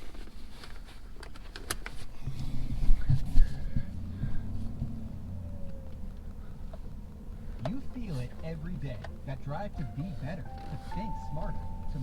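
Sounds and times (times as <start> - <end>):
vehicle rumble: 0.2 - 12.0.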